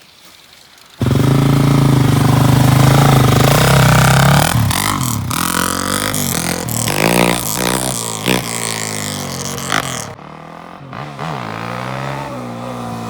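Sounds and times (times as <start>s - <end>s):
quad bike engine revving: 1.0s - 13.0s.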